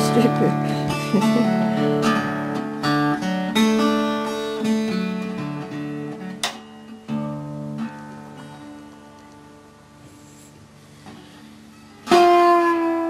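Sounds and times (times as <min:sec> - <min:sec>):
fingerpicked resonator guitar: 0:00.0 - 0:13.0.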